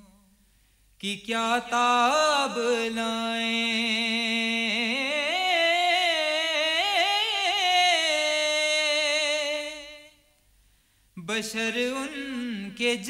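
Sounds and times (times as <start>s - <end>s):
man singing: 1.0s - 10.2s, 11.2s - 13.0s.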